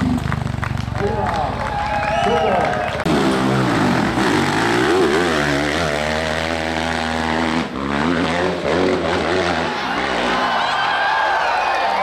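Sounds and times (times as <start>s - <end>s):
dirt bike engine revving: 0.0s - 10.8s.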